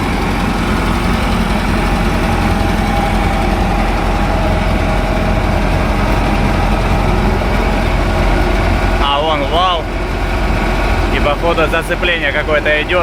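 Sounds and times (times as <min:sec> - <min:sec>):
harvester engine idling: 0:00.0 - 0:13.0.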